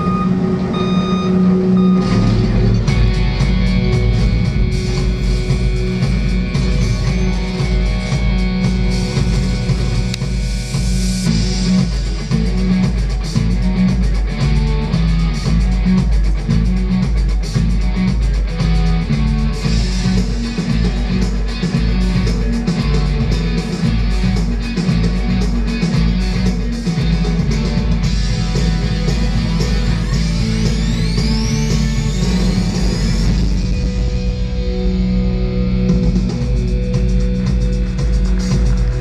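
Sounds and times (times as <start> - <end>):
loud rock music: 0.0 - 39.0.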